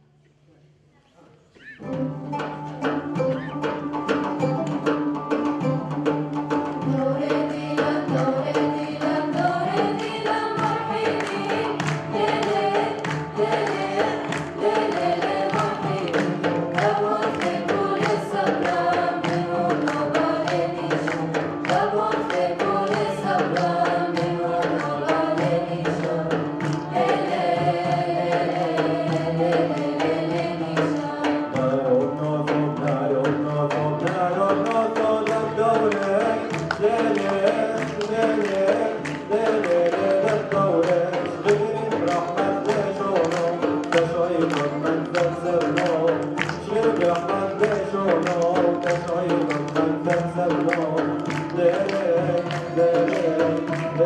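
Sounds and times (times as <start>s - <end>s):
hand drum rhythm: 1.6s - 54.0s
plucked string instrument: 1.6s - 54.0s
choir singing: 1.8s - 54.0s.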